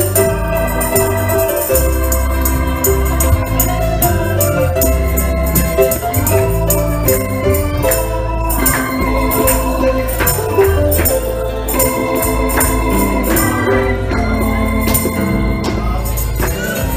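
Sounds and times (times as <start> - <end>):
organ playing held chords: 0.0 - 16.9
steady percussion beat: 0.0 - 16.9.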